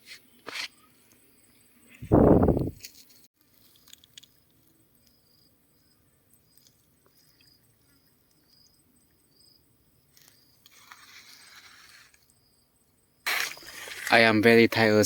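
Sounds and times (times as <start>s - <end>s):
insects chirping: 0.1s - 15.0s.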